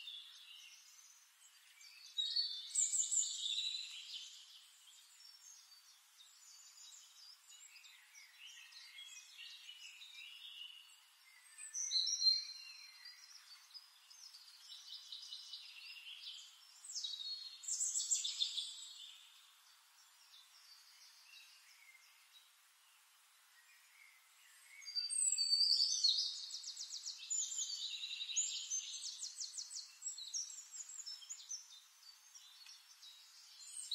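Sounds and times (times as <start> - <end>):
small birds chirping and trilling: 0.0 - 33.9.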